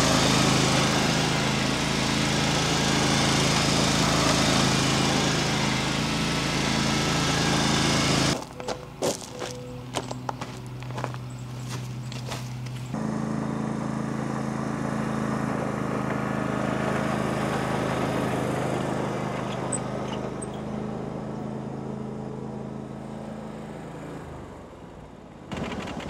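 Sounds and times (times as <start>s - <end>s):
tractor engine droning: 0.0s - 26.0s.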